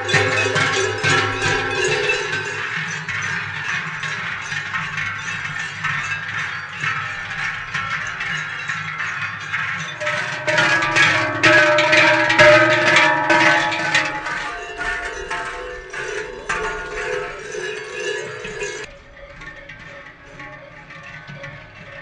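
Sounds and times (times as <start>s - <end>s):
cowbells and crotal bells clanging: 0.0s - 22.0s.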